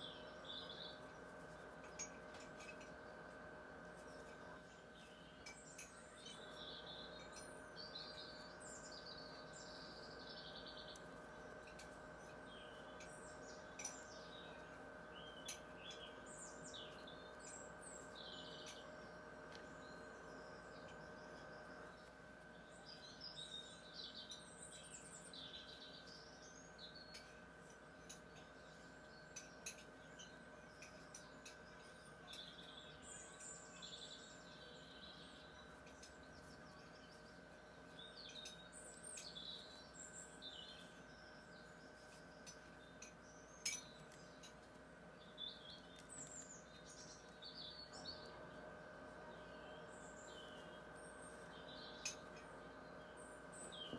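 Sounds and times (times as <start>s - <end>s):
faint steady hum: 0.0s - 53.9s
small birds chirping: 0.0s - 53.9s.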